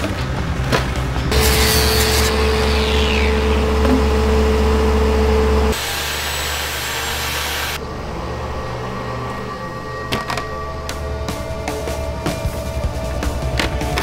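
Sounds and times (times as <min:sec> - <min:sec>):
quieter machine noise: 0:00.0 - 0:14.0
power tool humming: 0:01.3 - 0:13.1.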